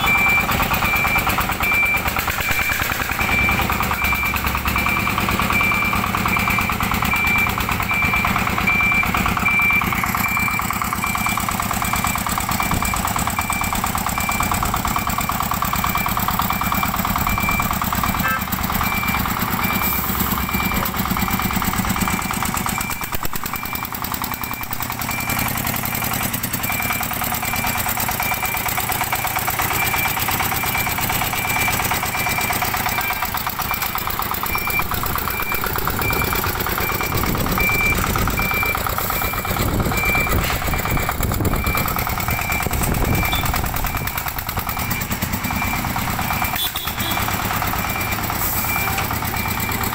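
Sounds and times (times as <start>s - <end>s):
high beep: 0.0s - 23.8s, 29.7s - 49.9s
diesel engine chugging: 0.0s - 49.9s.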